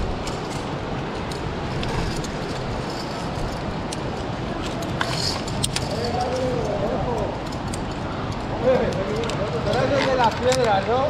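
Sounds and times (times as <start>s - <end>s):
steady rushing rumble: 0.0s - 9.7s
metallic carabiner clicks: 0.0s - 10.8s.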